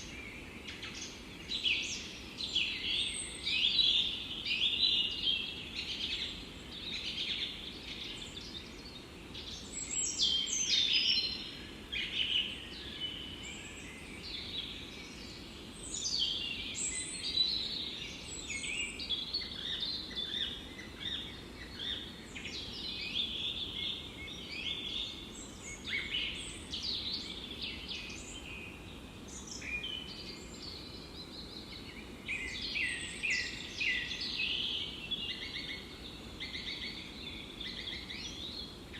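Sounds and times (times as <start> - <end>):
faint background hiss: 0.0 - 38.9
songbirds singing and chirping: 0.0 - 38.9.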